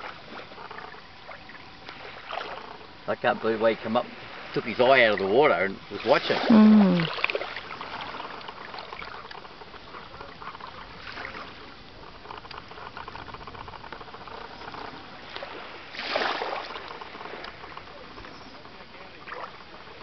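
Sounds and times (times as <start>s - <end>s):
water lapping at shoreline: 0.0s - 20.0s.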